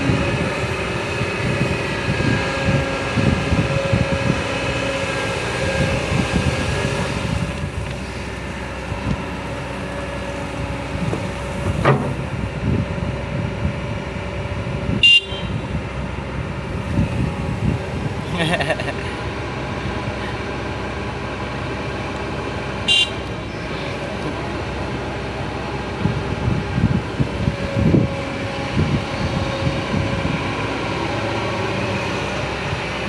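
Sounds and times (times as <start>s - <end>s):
vehicle engines running: 0.0s - 33.0s.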